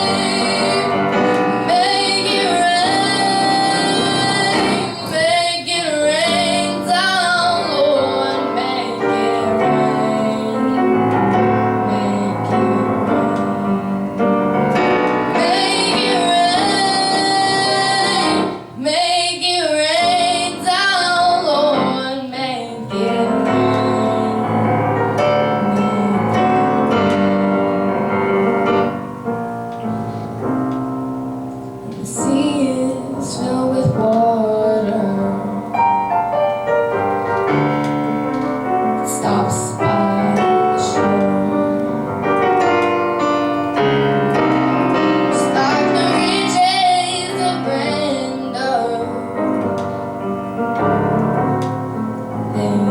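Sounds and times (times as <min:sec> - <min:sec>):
girl singing ballad: 0:00.0 - 0:29.0, 0:31.7 - 0:36.2, 0:37.2 - 0:52.9
piano accompaniment: 0:00.0 - 0:52.9.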